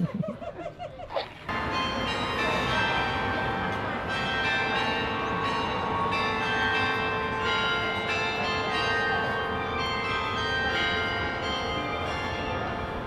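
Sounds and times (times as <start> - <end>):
tower bells ringing: 1.5 - 13.0.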